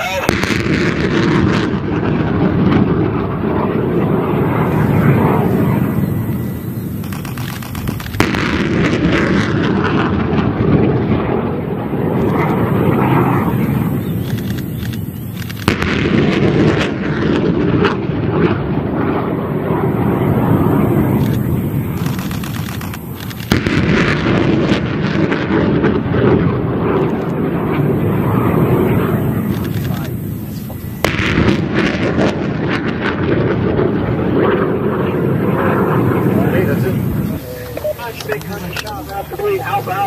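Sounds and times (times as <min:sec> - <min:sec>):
rocket motor roar: 0:00.0 - 0:40.0.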